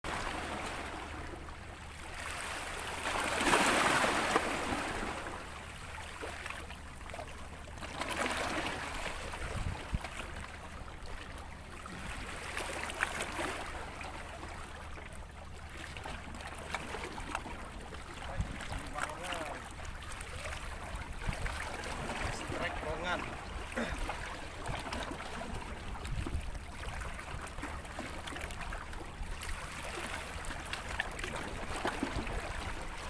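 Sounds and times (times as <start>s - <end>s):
sea waves washing ashore: 0.0s - 33.0s.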